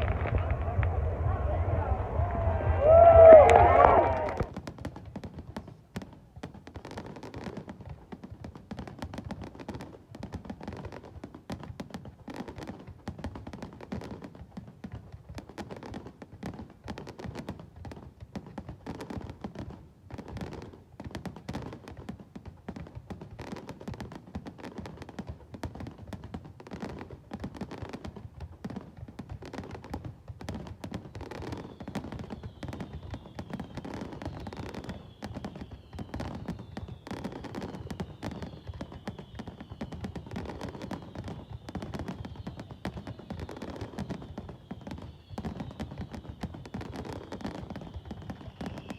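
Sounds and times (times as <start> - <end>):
fireworks crackling and banging: 0.0 - 48.9.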